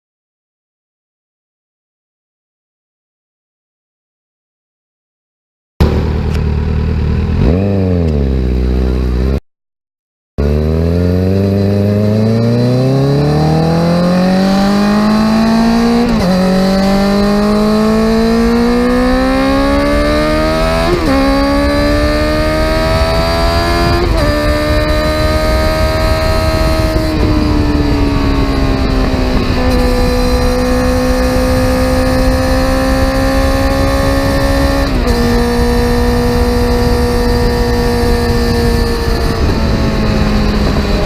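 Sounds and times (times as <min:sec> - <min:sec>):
motorcycle accelerating through gears: 0:05.8 - 0:09.4, 0:10.4 - 0:41.0
motorcycle engine revving: 0:05.8 - 0:09.4, 0:10.4 - 0:41.0.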